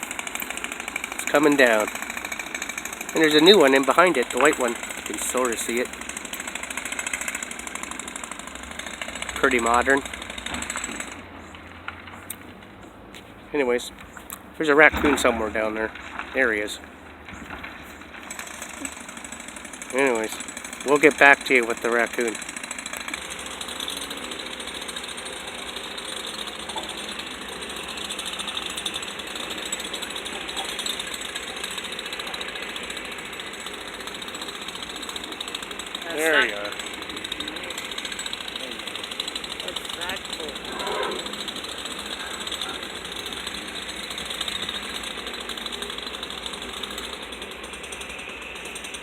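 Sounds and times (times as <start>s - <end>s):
jackhammer hammering: 0.0s - 12.7s, 13.5s - 49.0s
demolition machinery running: 0.0s - 12.8s, 13.4s - 49.0s.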